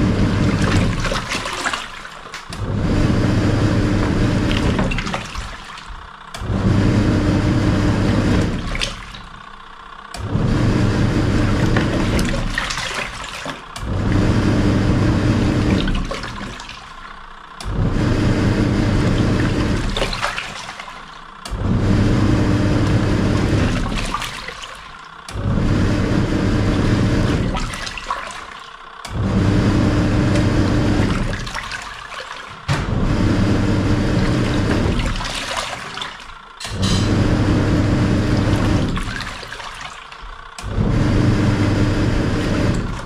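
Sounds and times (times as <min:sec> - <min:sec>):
washing machine agitating water: 0:00.0 - 0:43.0.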